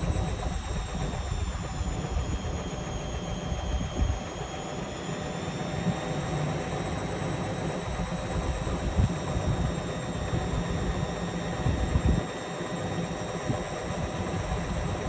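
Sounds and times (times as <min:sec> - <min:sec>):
high motor whine: 0:00.0 - 0:15.0.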